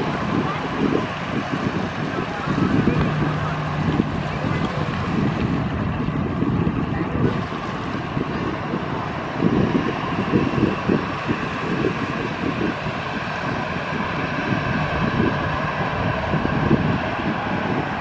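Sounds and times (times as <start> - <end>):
jet engines roaring: 0.0 - 18.0
wind buffeting microphone: 0.0 - 18.0.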